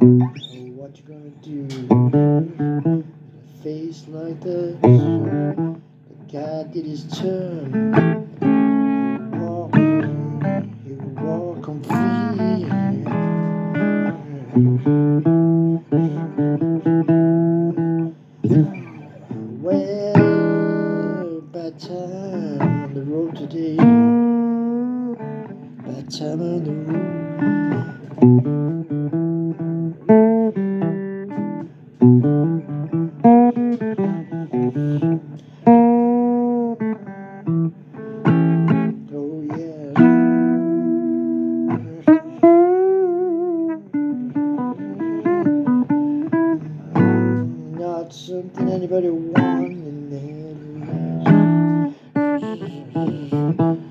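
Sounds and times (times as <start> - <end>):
person singing: 0.0 - 28.1, 32.6 - 53.9
blues guitar plucked notes: 0.0 - 53.9.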